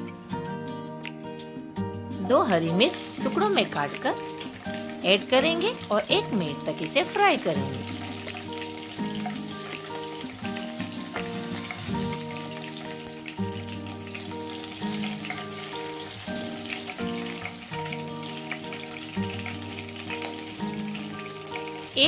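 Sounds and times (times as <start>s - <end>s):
soft background music: 0.0s - 22.0s
spices sizzling in hot oil: 0.0s - 22.0s.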